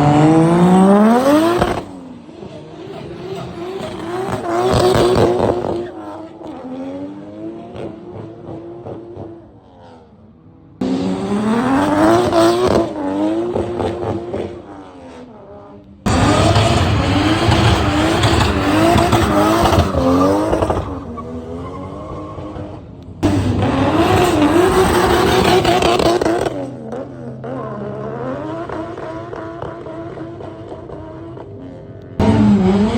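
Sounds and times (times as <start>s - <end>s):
car engines revving: 0.0s - 32.9s.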